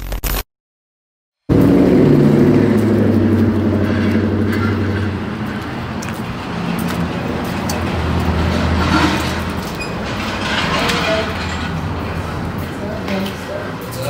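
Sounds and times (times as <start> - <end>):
vehicle engine humming: 1.5 - 14.0.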